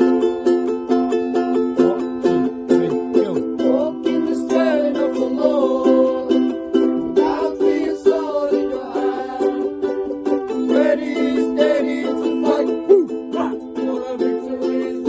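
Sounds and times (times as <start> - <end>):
strummed string instrument music: 0.0 - 15.0.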